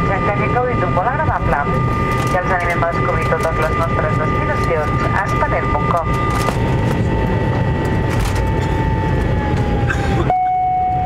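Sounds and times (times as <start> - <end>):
jet engine rumble and whine: 0.0 - 11.0.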